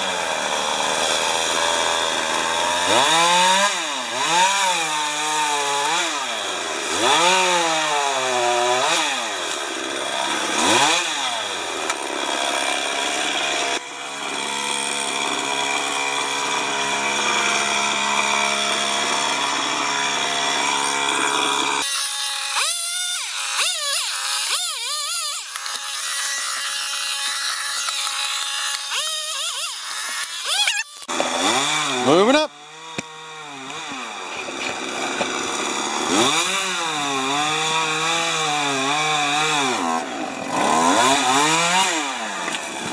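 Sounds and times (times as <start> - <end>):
chainsaw revving: 0.0 - 42.9
distant chainsaw revving: 0.0 - 42.9.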